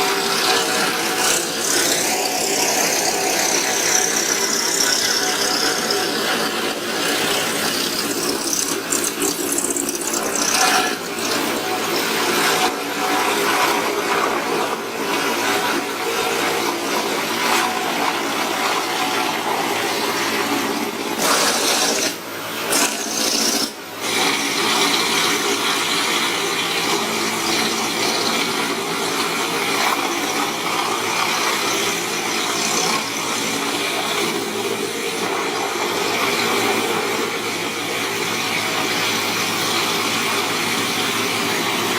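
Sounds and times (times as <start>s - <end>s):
wood chipper engine hum: 0.0s - 41.9s
wood chipper grinding: 0.0s - 41.9s.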